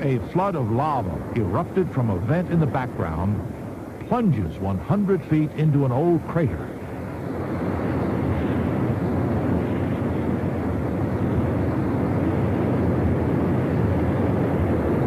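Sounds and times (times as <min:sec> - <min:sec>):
deep roar of lava eruption: 0:00.0 - 0:15.0.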